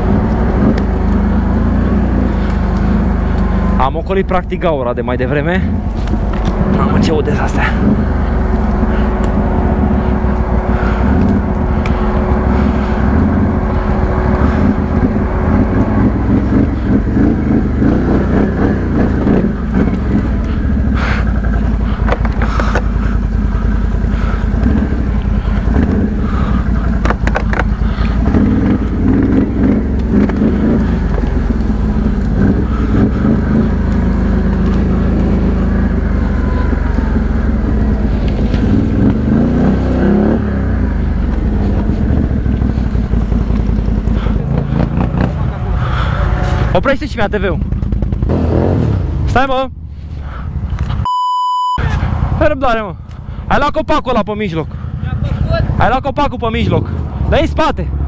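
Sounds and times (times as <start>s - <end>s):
atv engine running: 0.0s - 51.0s, 51.8s - 58.0s.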